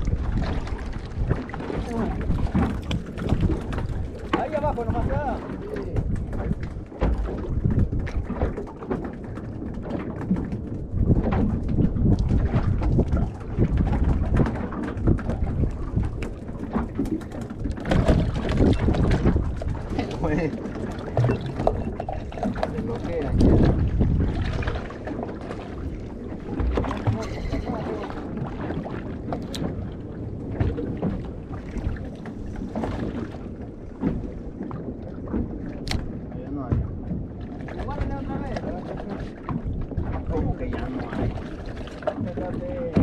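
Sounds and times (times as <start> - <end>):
water lapping against boat hull: 0.0 - 43.0
wind buffeting microphone: 0.0 - 43.0.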